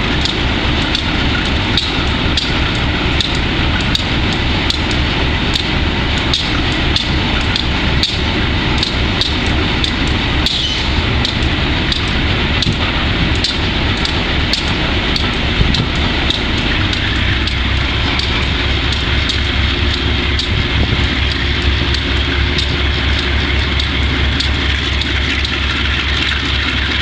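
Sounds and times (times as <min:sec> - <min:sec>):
diesel locomotive engine running: 0:00.0 - 0:27.0.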